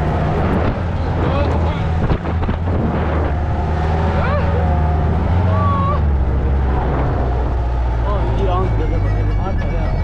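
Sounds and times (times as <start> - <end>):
jeep engine low rumble: 0.0 - 10.0.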